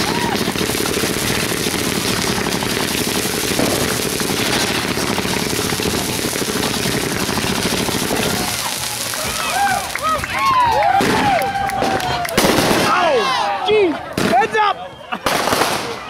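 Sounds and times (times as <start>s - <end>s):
firecrackers banging: 0.0s - 16.0s.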